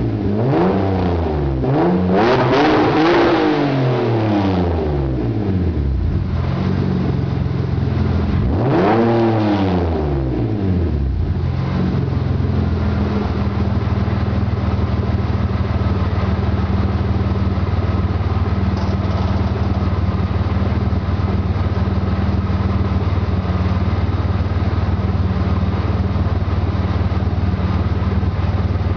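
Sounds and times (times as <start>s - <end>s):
car engine revving and idling: 0.0s - 28.9s.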